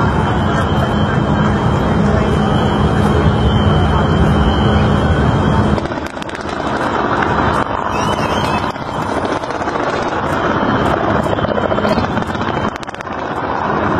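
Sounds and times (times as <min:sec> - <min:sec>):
fireworks bursts: 0:00.0 - 0:13.9
fireworks crackling: 0:00.0 - 0:13.9
low fireworks boom: 0:00.0 - 0:13.9.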